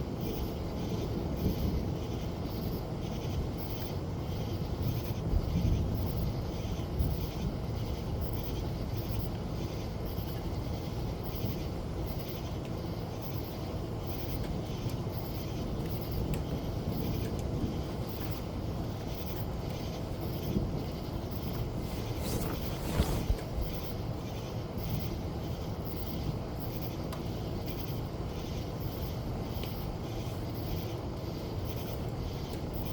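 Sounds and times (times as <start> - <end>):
steady rain: 0.1 - 32.9.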